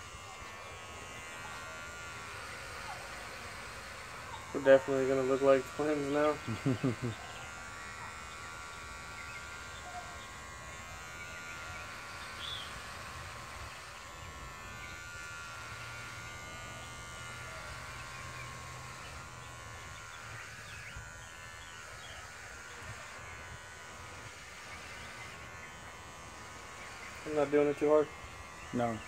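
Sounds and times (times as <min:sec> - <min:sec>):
electric hair clippers buzzing: 0:00.0 - 0:29.0.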